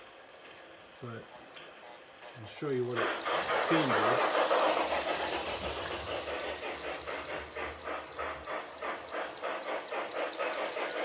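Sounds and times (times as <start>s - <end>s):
rumble of wheels and motor: 0.0s - 11.0s
model train steam chuff: 1.0s - 11.0s.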